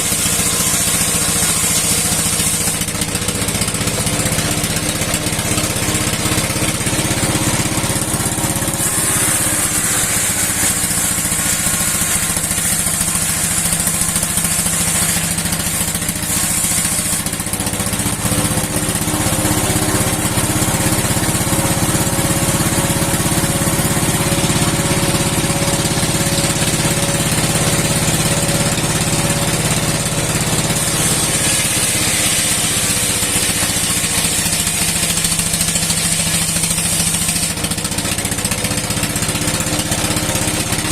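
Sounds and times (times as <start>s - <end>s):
old engine running: 0.0s - 40.9s.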